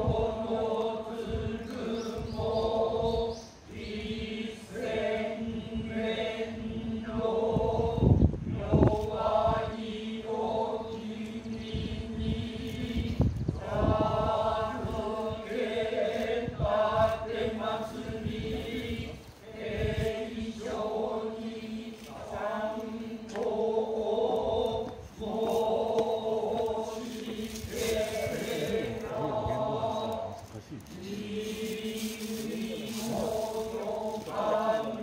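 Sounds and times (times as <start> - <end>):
low voice chanting: 0.0 - 35.0.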